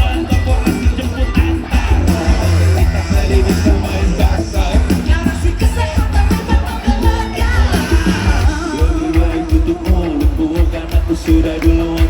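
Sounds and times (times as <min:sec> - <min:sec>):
person singing: 0:00.0 - 0:12.0
pop-rock band playing: 0:00.0 - 0:12.0
pulsing bass and drum beat: 0:00.0 - 0:12.0.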